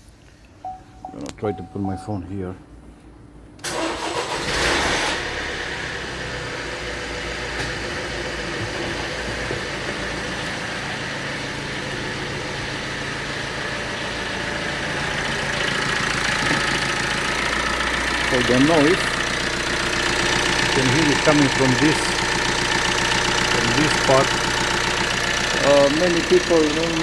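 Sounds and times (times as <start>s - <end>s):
diesel engine starting and idling: 3.5s - 27.0s.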